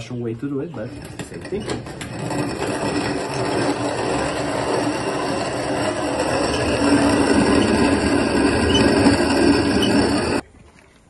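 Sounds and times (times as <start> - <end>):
hand coffee mill grinding: 0.8 - 10.4.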